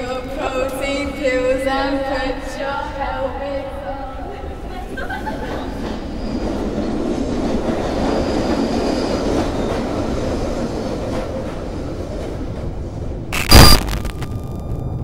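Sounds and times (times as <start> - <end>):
train rumbling: 0.0 - 13.4.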